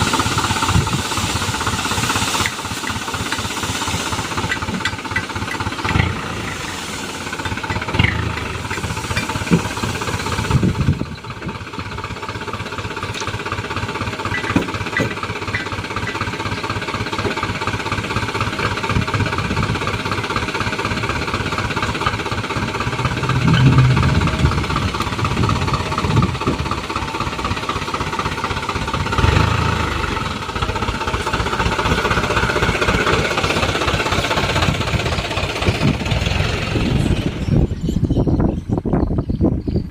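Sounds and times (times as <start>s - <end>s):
diesel truck engine clattering: 0.0s - 39.8s.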